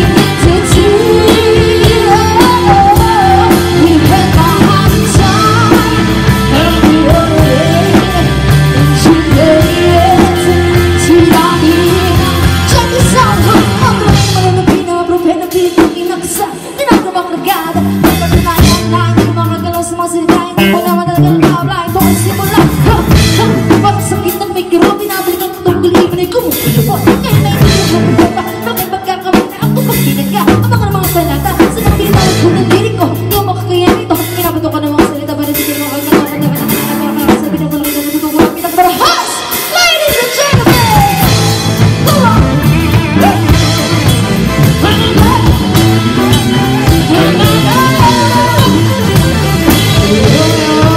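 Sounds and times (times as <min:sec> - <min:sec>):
electric bass: 0:00.0 - 0:16.4, 0:17.7 - 0:24.9, 0:25.5 - 0:38.8, 0:40.4 - 0:50.9
drum kit steady beat: 0:00.0 - 0:50.9
electric guitar: 0:00.0 - 0:50.9
person singing lead vocals: 0:00.0 - 0:50.9.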